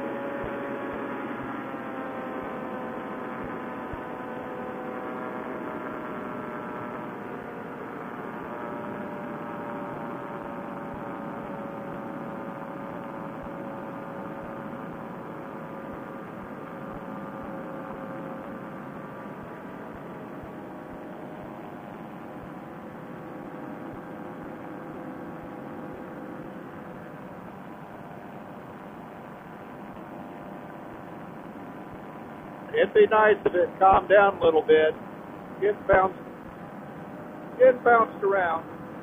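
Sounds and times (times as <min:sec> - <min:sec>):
paramotor engine and propeller droning: 0:00.0 - 0:39.0.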